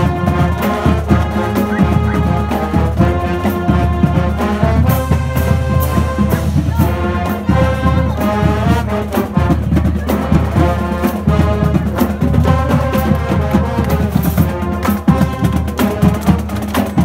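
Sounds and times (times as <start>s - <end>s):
marching band brass playing: 0.0s - 17.0s
percussion beat: 0.0s - 17.0s.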